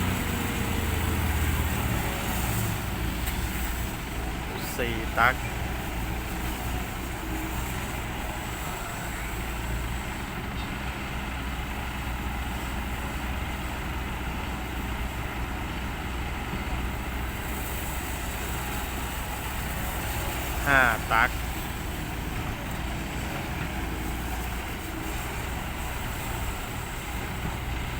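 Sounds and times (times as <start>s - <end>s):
heavy diesel engines running: 0.0s - 27.9s.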